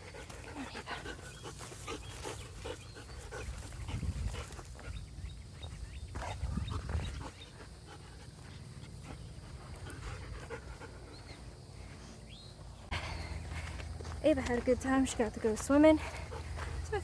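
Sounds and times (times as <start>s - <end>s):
dog panting: 0.0s - 12.2s, 15.1s - 17.0s.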